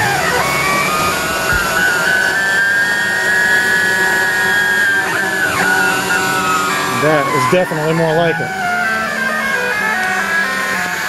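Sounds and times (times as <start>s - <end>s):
router spindle whining: 0.0s - 11.0s.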